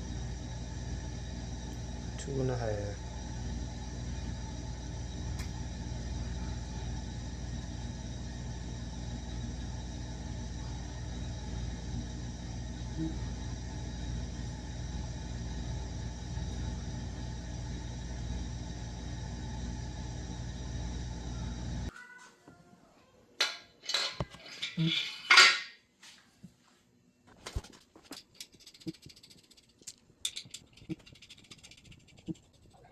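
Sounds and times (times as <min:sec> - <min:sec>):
mechanical hum: 0:00.0 - 0:32.9.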